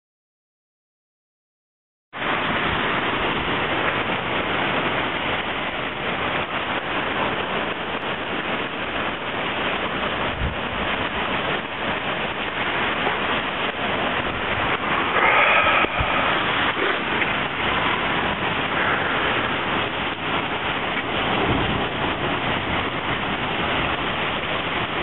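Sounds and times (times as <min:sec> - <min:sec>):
heavy rain on pavement: 0:02.1 - 0:25.0.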